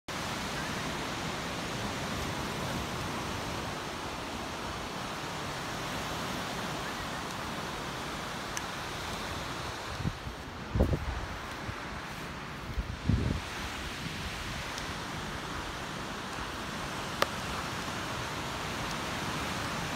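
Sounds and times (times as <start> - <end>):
ocean surf on a beach: 0.1 - 19.9.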